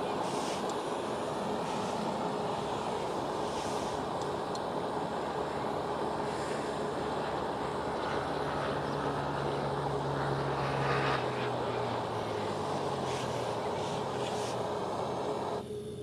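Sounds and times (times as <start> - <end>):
passing engine drone: 0.0 - 16.0.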